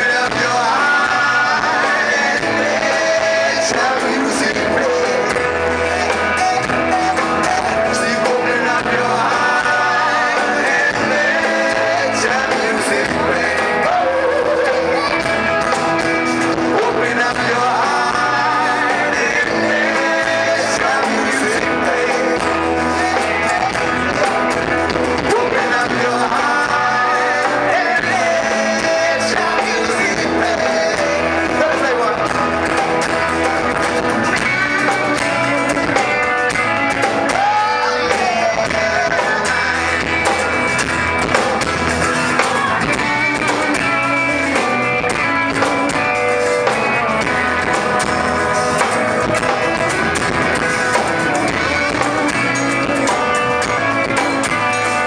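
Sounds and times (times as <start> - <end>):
bass guitar: 0.0 - 55.0
conga drums: 0.0 - 55.0
man singing: 0.0 - 55.0
strummed acoustic guitar: 0.0 - 55.0.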